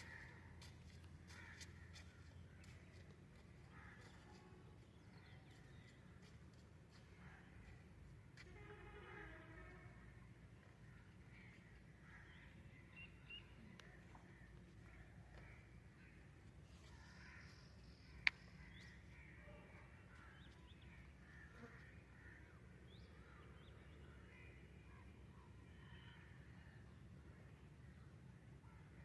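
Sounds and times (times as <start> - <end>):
faint crows cawing: 0.0 - 26.8.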